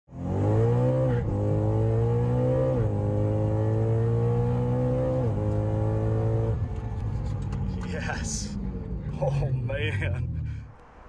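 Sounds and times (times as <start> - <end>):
car engine accelerating: 0.1 - 11.0.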